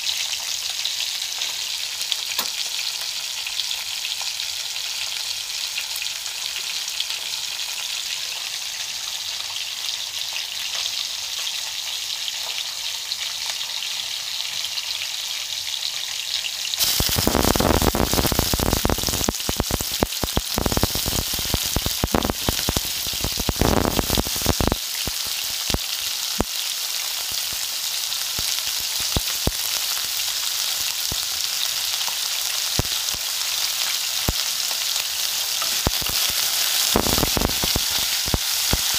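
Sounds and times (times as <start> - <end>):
frying in hot oil sizzling: 0.0 - 38.9.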